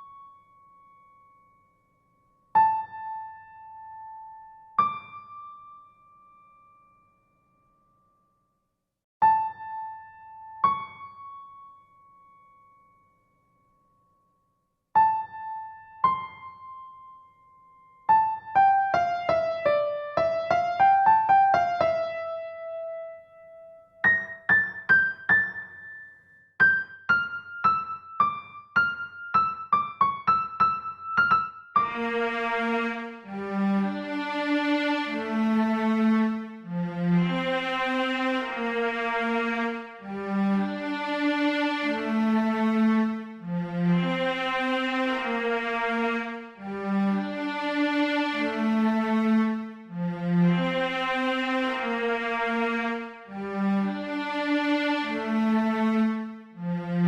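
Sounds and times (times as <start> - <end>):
slow piano melody: 0.0 - 8.4, 9.2 - 14.2, 14.9 - 57.0.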